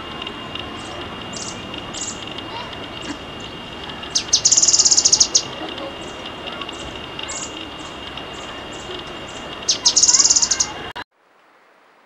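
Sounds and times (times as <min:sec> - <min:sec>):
songbird singing: 0:00.0 - 0:11.0
thin steady high tone: 0:00.0 - 0:11.0.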